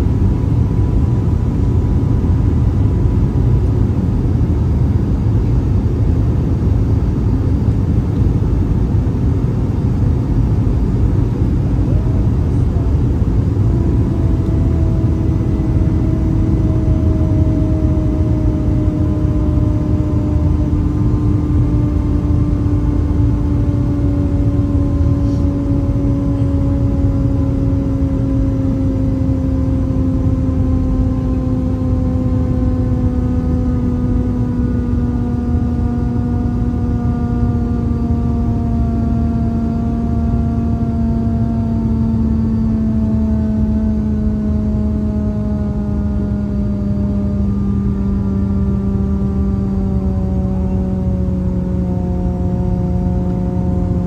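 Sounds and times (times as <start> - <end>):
airplane cabin engine rumble: 0.0 - 54.0
engine whine falling in pitch: 0.0 - 54.0.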